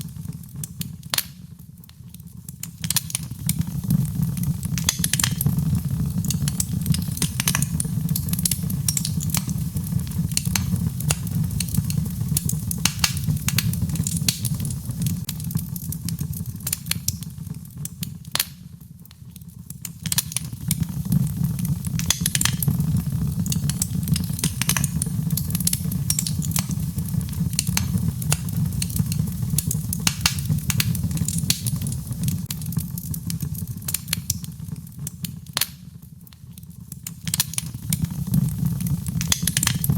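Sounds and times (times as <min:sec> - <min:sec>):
fire crackling and popping: 0:00.0 - 0:39.9
fire rumbling in fireplace: 0:00.0 - 0:39.9.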